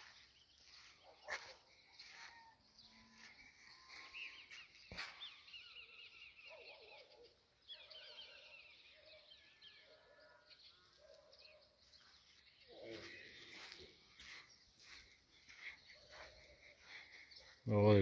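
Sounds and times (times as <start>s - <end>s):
small birds chirping and trilling: 0.0s - 18.0s.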